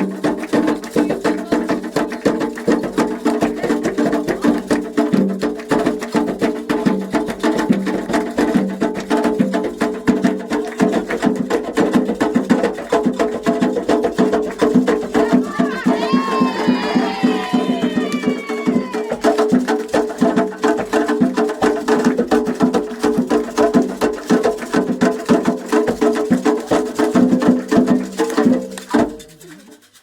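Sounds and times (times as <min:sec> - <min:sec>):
hand drums beating fast rhythm: 0:00.0 - 0:30.0.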